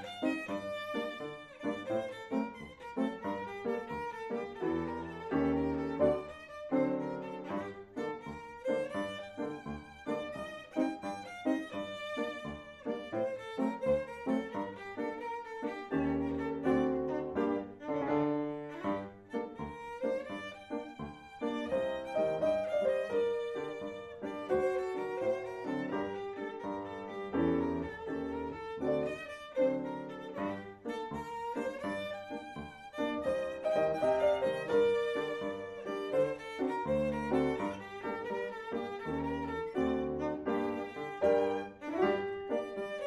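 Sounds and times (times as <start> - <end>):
violin melody: 0.0 - 43.0.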